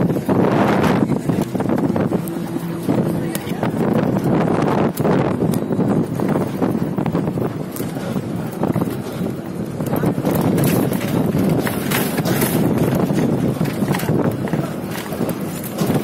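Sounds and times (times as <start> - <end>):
people talking: 0.0 - 16.0
wind noise on microphone: 0.0 - 16.0.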